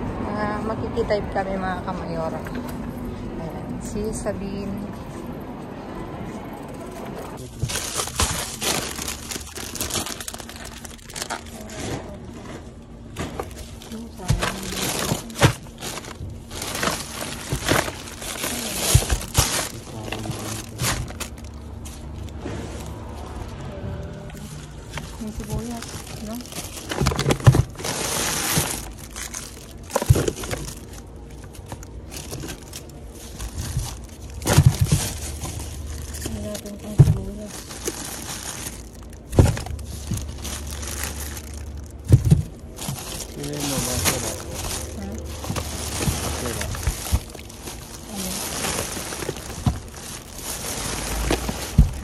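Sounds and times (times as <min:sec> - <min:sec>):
plastic bag crinkling: 0:06.6 - 0:23.6, 0:24.3 - 0:52.0.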